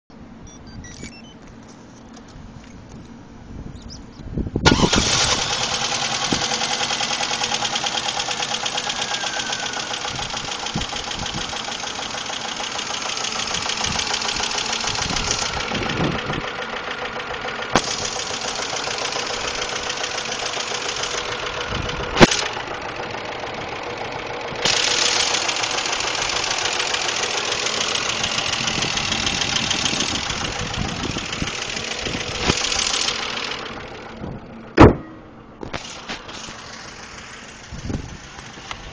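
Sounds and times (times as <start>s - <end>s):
car engine idling: 1.3s - 38.9s.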